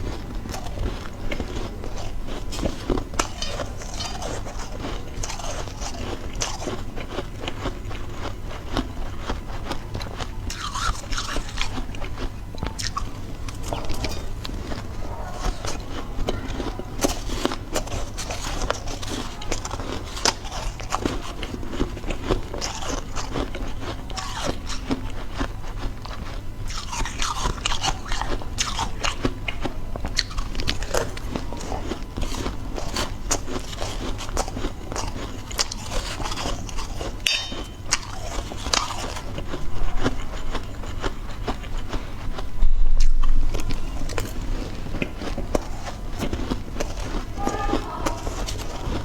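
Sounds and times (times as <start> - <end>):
chewing crunchy ice: 0.0 - 49.0
steady low hum: 0.0 - 49.0.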